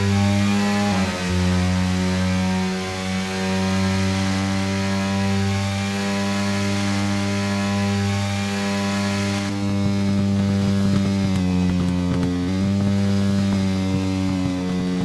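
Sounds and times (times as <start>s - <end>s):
motorcycle engine buzzing: 0.0s - 15.0s.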